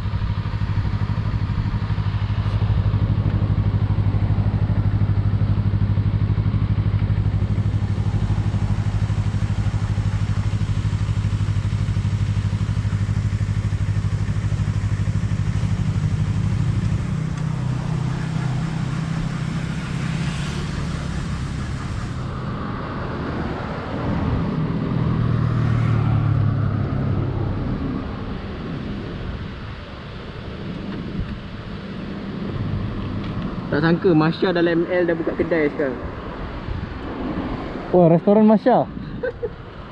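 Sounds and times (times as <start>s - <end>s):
motorcycle engine running: 0.0s - 35.6s.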